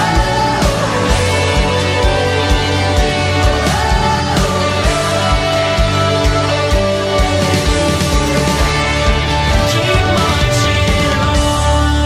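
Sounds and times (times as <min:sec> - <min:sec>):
steady drum beat: 0:00.0 - 0:12.0
sustained instrumental parts: 0:00.0 - 0:12.0.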